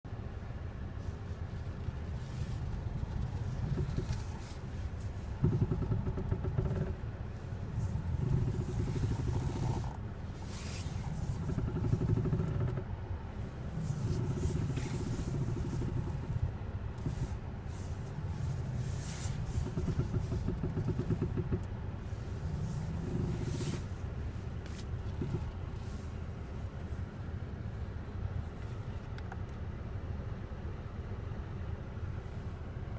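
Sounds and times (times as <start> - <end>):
car engine rumbling: 0.0 - 32.9
steering creaking: 0.4 - 30.2.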